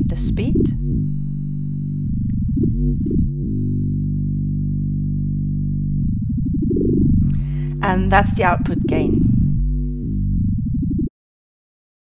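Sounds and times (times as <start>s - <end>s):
low synthesizer drone: 0.0s - 11.1s.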